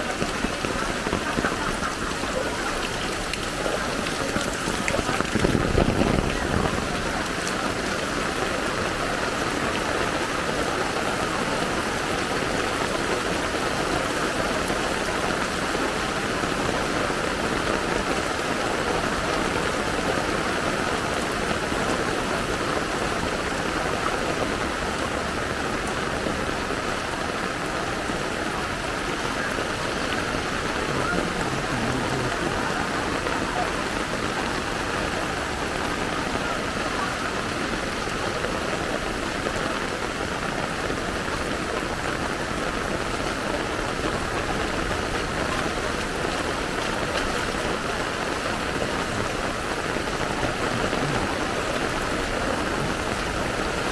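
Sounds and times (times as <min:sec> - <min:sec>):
floodwater rushing: 0:00.0 - 0:53.9
heavy rain hissing: 0:00.0 - 0:53.9.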